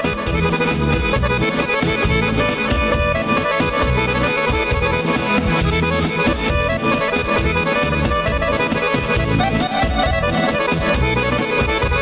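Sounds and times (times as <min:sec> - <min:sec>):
folk band music with accordion: 0:00.0 - 0:12.0
steady bass beat: 0:00.2 - 0:12.0.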